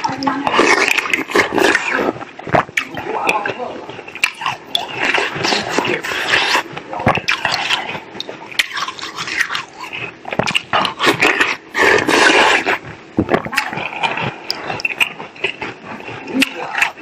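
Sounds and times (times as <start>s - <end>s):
ice crunching: 0.0s - 17.0s
wet chewing: 0.0s - 17.0s.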